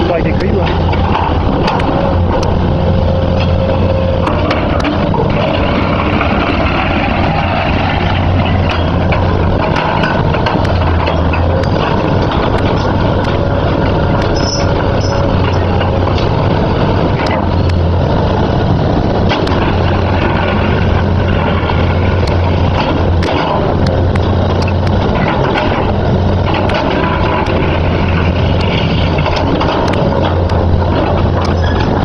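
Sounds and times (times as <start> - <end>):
excavator diesel engine running: 0.0 - 32.0
sharp metal clanks and knocks: 3.3 - 17.8, 19.3 - 32.0.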